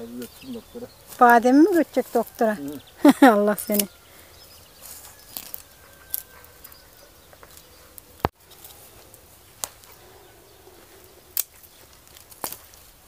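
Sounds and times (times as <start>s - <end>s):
faint rustling of branches: 0.0s - 13.0s.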